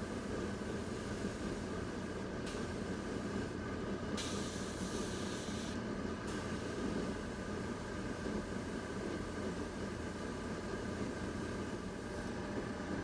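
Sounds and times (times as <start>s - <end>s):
ventilation fan: 0.0s - 13.0s.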